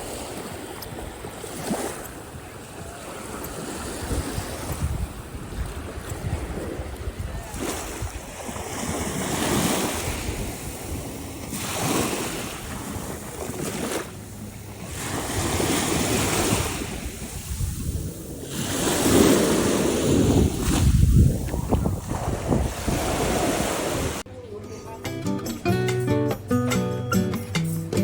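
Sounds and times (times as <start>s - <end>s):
wind buffeting microphone: 0.0s - 24.2s
waves washing onto beach: 0.0s - 24.3s.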